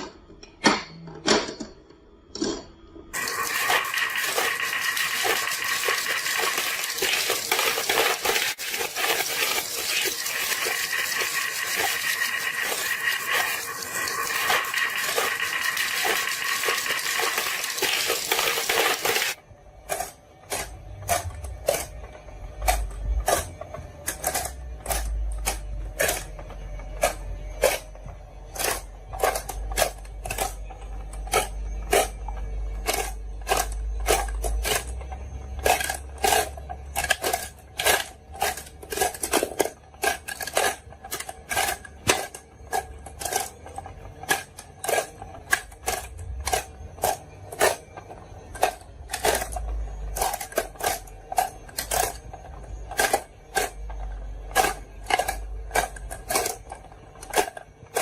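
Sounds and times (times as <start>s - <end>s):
marbles clattering through marble run: 2.4s - 22.0s, 22.6s - 58.0s.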